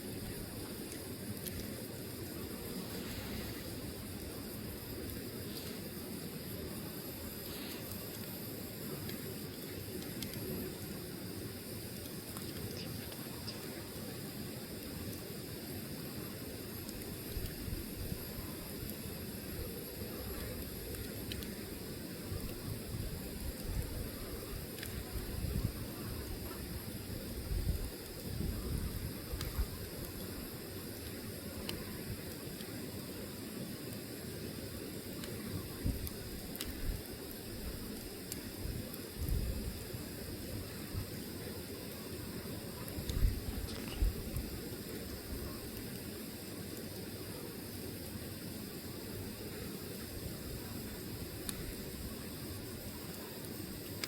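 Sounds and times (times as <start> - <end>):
fire rushing and hissing: 0.0 - 54.0
wood fire crackling: 0.0 - 54.0.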